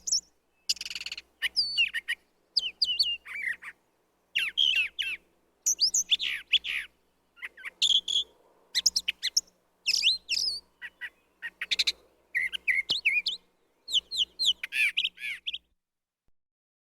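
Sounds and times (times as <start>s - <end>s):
bird singing whistled phrases: 0.0s - 3.8s, 4.4s - 15.7s.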